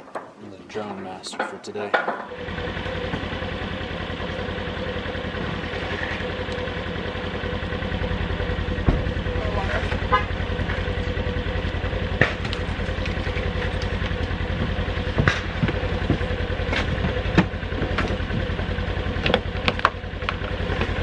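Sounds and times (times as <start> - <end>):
utility vehicle engine running: 2.2 - 21.0.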